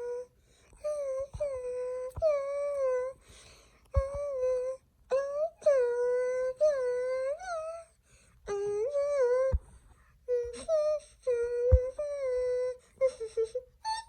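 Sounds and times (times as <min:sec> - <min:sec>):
person singing long held notes: 0:00.0 - 0:03.3, 0:03.9 - 0:14.0.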